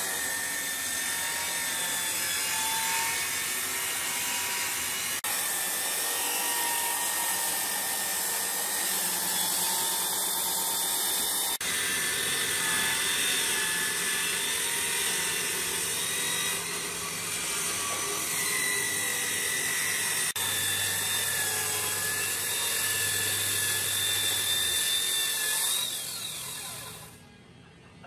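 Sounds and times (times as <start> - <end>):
circular saw cutting wood: 0.0 - 27.3.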